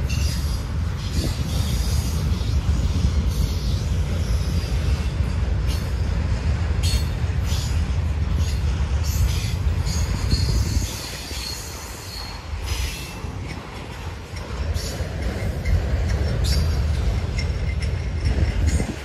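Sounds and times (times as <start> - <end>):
freight train cars rumbling: 0.0 - 19.0.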